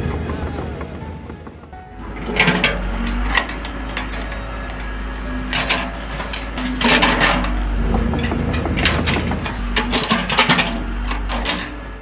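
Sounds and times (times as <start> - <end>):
bucket scraping rocky soil: 2.0 - 12.0
toy excavator motor hum: 2.0 - 12.0.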